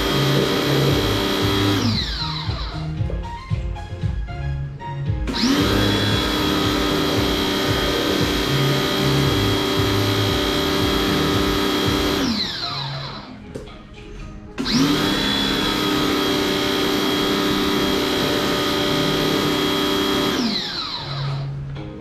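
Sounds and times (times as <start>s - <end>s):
pressure washer motor whining: 0.0s - 3.0s, 5.3s - 13.4s, 14.6s - 21.6s.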